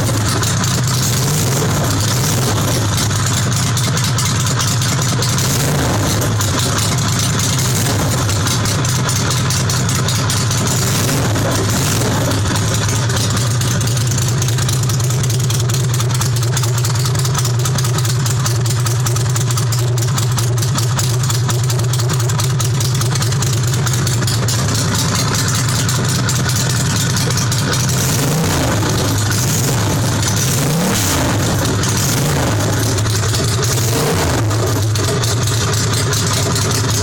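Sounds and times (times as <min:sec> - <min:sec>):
loud motorcycle engine idling: 0:00.0 - 0:37.0.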